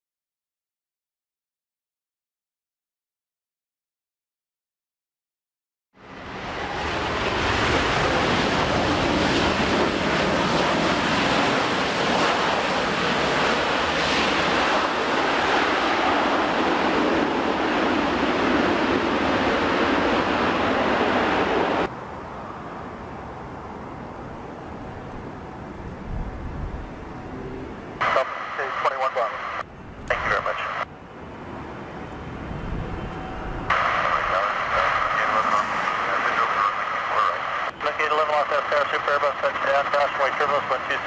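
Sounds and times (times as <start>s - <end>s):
distant jet noise: 6.0s - 41.0s
jet engines roaring: 6.0s - 41.0s.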